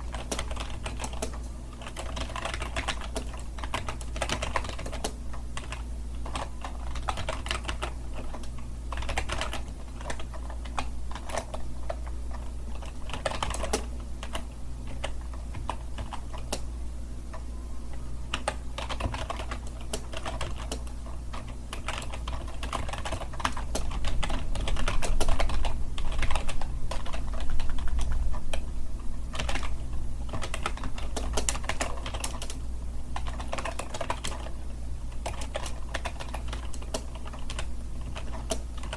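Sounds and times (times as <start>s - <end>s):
computer keyboard typing: 0.0s - 16.7s, 17.3s - 28.7s, 29.3s - 38.9s
steady low hum: 0.0s - 38.9s.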